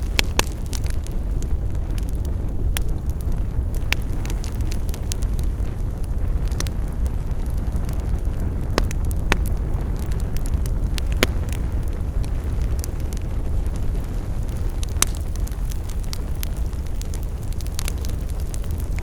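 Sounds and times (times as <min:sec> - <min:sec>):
burning wood crackling and popping: 0:00.0 - 0:19.0
low roar of flames: 0:00.0 - 0:19.0.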